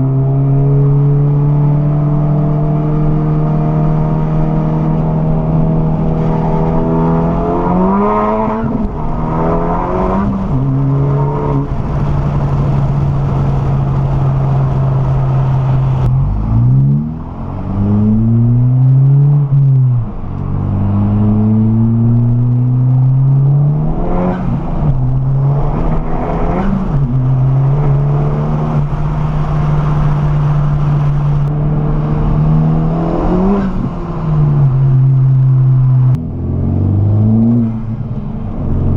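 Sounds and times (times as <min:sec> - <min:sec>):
turbocharged car engine revving: 0:00.0 - 0:38.9.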